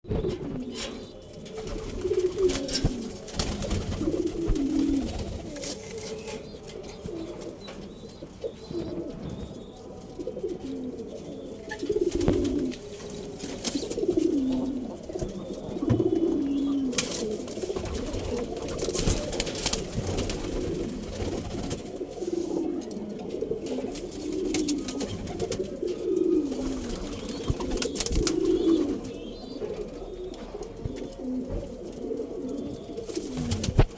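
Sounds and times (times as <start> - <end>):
pigeons cooing: 0.1 - 33.9.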